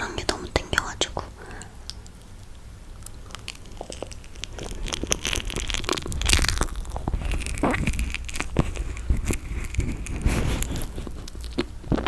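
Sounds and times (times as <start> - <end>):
crunchy eating: 2.2 - 12.0.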